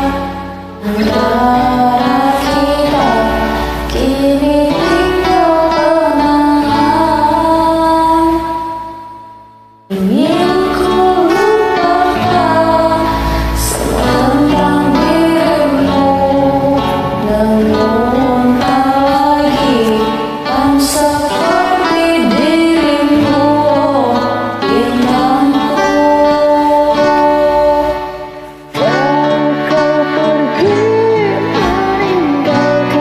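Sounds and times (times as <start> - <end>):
karaoke backing track: 0.0 - 33.0
woman singing: 0.0 - 33.0.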